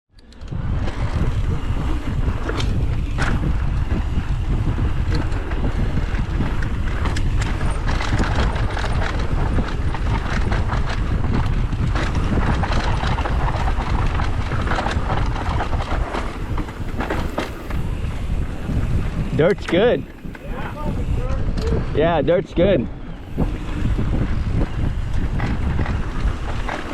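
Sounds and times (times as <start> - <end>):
bike clicks and rattles: 0.1 - 26.9
wind buffeting microphone: 0.2 - 26.9
tyres rolling on dirt: 0.9 - 20.9, 23.2 - 26.9.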